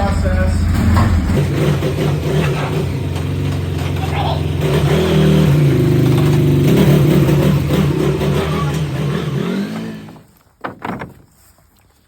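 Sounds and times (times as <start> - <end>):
vehicle engine running at low revs: 0.0 - 10.2.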